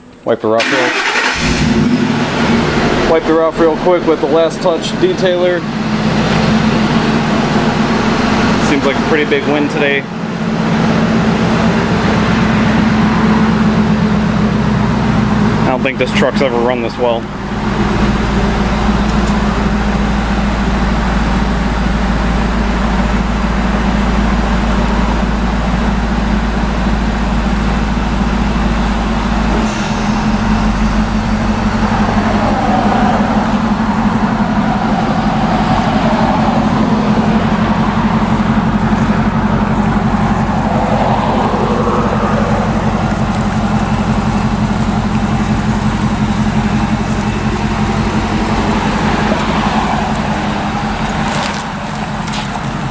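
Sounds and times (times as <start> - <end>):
car engine running: 0.0 - 52.9.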